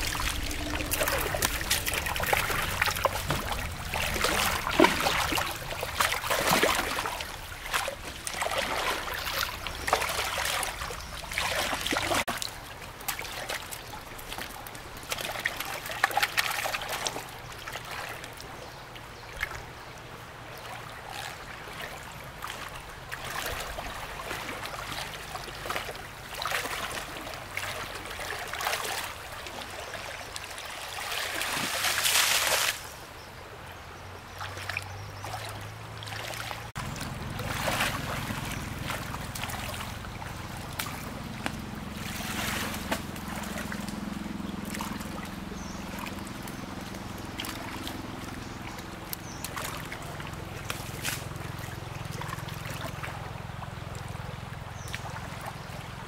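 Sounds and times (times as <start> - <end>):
rush of water: 0.0 - 56.0
water trickling and splashing: 0.0 - 56.0.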